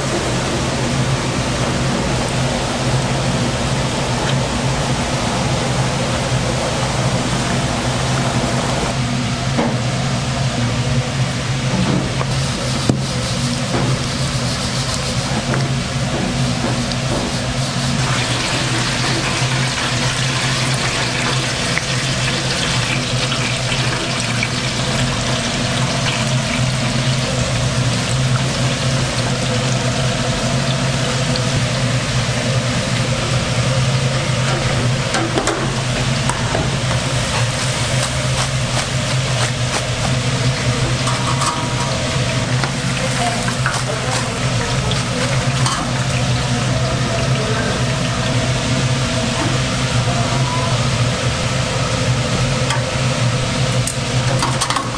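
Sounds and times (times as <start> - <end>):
low hum: 0.0 - 54.4.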